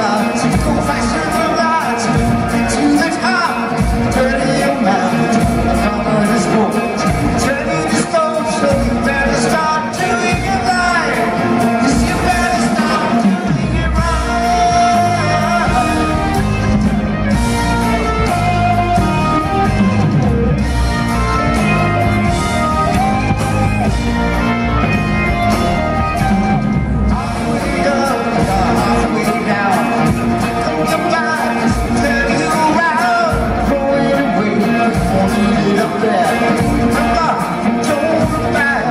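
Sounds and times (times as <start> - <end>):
bass guitar: 0.0 - 38.9
drums: 0.0 - 38.9
electric guitar lead lines: 0.0 - 38.9.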